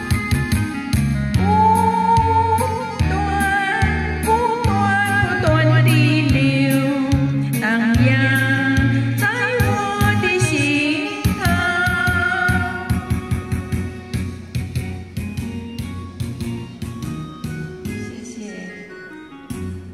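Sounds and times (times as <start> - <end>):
held bass notes: 0.0 - 18.2
ballad melody with vibrato: 0.0 - 19.9.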